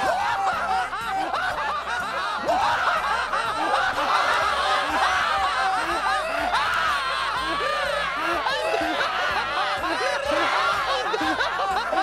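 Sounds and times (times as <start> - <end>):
high-pitched voices cackling: 0.0 - 12.0.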